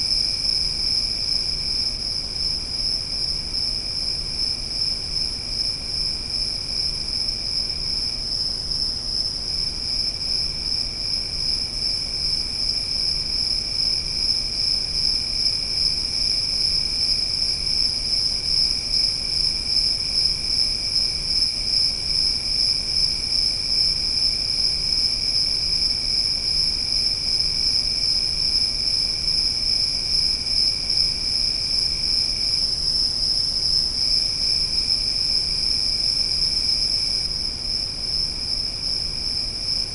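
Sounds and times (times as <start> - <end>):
lower insect trill: 0.0 - 39.9.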